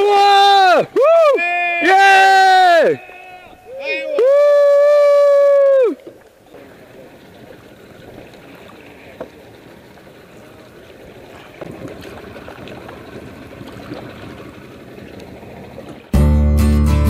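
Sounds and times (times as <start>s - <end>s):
paddle splashes: 0.0s - 16.2s
water lapping around canoe: 0.0s - 16.2s.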